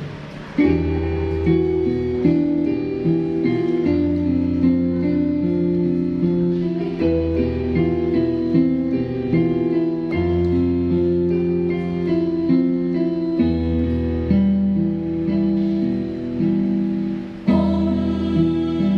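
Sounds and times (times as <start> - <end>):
instrumental music with held chords: 0.0 - 18.9.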